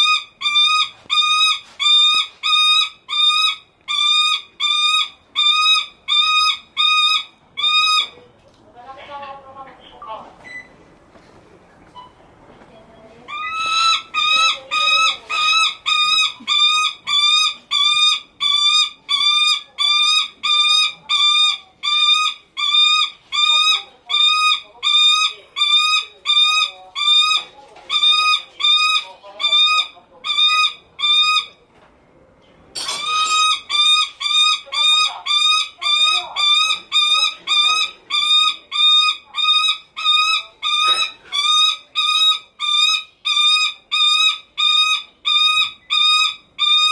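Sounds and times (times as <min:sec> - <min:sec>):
falcon calling harshly: 0:00.0 - 0:08.2, 0:13.3 - 0:31.6, 0:33.0 - 0:46.9.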